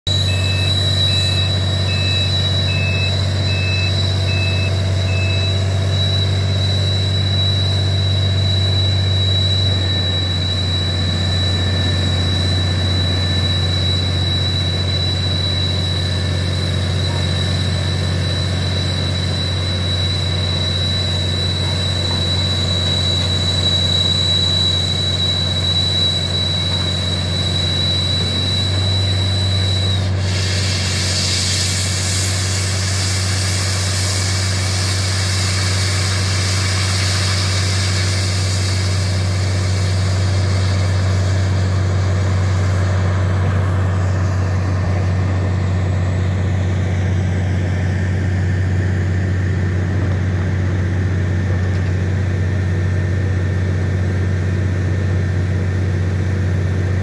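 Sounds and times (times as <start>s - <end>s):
drill rig engine drone: 0.0s - 57.0s
beeping alarm: 0.1s - 47.8s
high whine: 0.1s - 57.0s.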